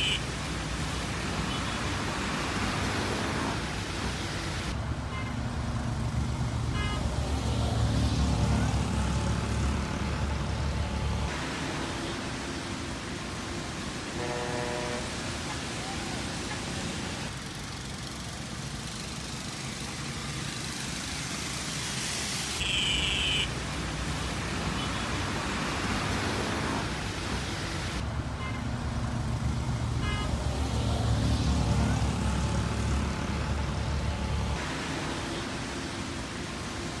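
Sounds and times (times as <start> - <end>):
vehicle engines: 0.0 - 37.0.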